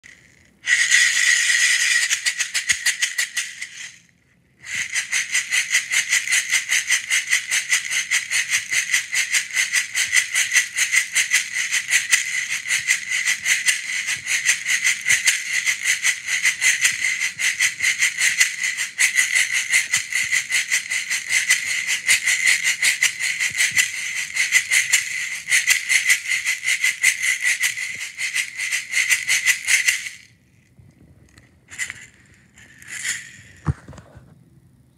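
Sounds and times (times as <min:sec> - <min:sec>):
wooden box shaker rattling: 0:00.0 - 0:04.0, 0:04.6 - 0:30.3, 0:31.2 - 0:34.0.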